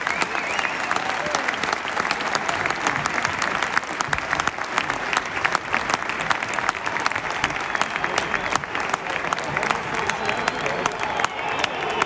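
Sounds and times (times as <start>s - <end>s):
crowd clapping: 0.0s - 12.0s.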